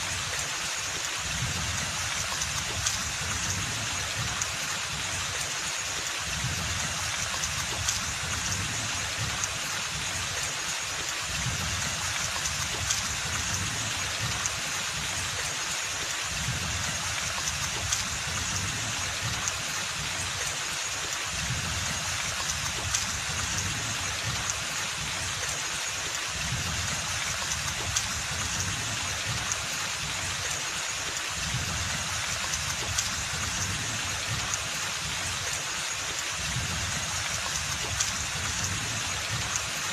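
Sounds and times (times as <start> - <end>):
steady rain on foliage: 0.0 - 39.9.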